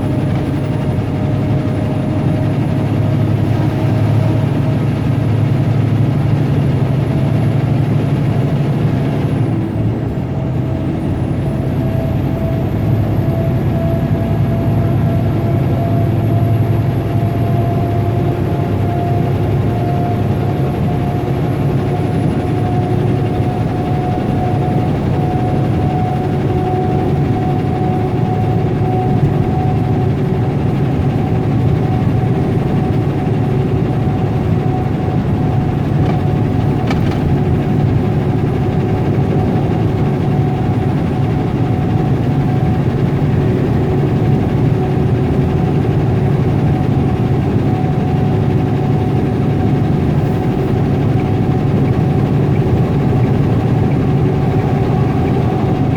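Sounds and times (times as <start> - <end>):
diesel engine and road drone: 0.0 - 55.9.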